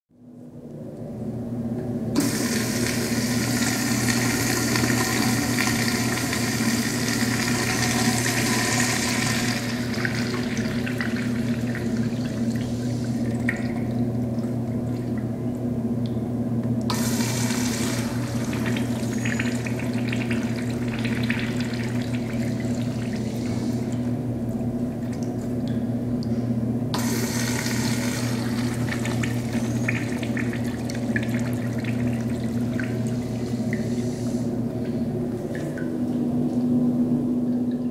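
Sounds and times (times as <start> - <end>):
low electrical hum: 0.2 - 37.9
urinal flushing: 2.2 - 15.4, 16.9 - 25.7, 26.9 - 36.3.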